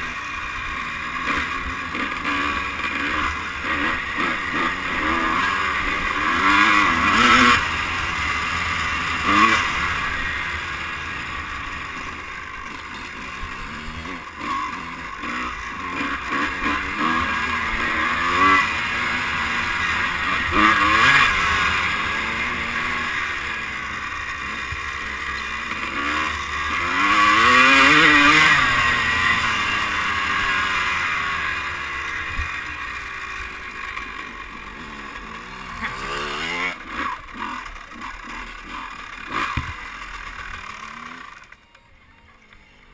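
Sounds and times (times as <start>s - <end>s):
dirt bike engine revving: 0.0s - 41.6s.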